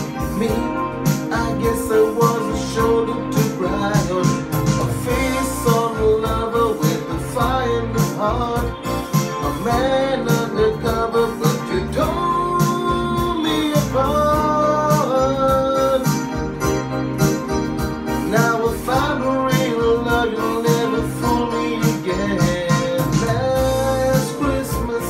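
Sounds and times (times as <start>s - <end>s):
man singing: 0.0s - 16.4s, 18.2s - 25.0s
backing beat: 0.0s - 25.0s
electronic keyboard chords: 0.0s - 25.0s.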